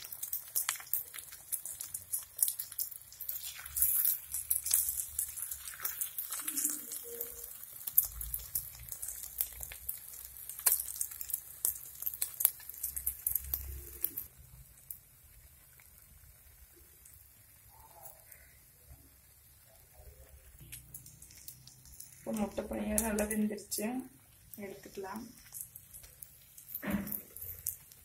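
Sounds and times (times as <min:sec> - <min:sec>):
hot oil crackling and popping: 0:00.0 - 0:28.0.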